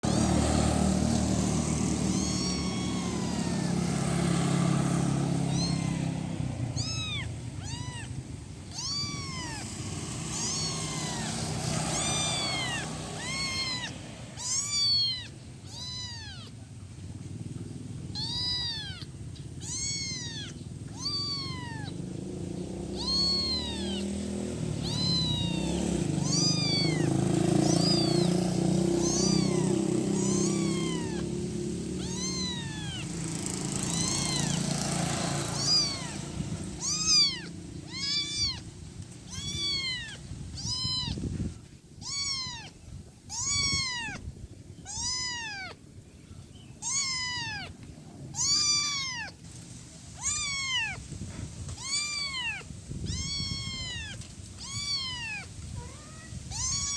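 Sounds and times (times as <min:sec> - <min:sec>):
kitten mewing: 0:00.0 - 0:45.9, 0:46.7 - 0:56.9.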